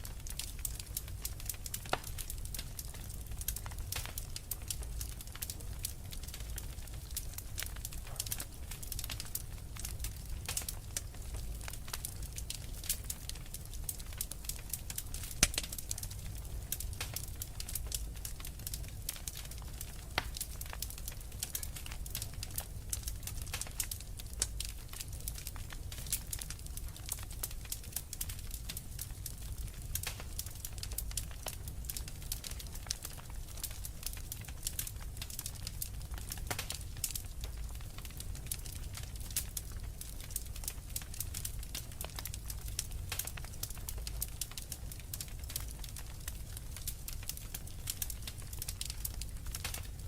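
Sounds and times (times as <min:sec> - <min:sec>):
low rumble of flames: 0:00.0 - 0:50.0
wood fire crackling: 0:00.0 - 0:50.0.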